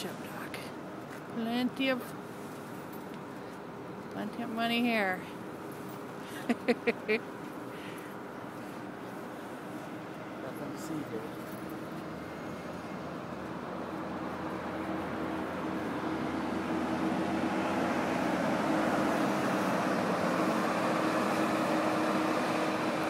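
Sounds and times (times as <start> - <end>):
bus engine and tyre noise: 0.0 - 23.0.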